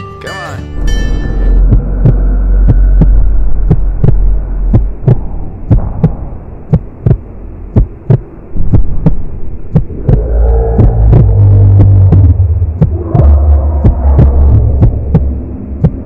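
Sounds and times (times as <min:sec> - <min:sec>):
low steady drone: 0:00.7 - 0:16.0
heartbeat thumps: 0:00.8 - 0:16.0.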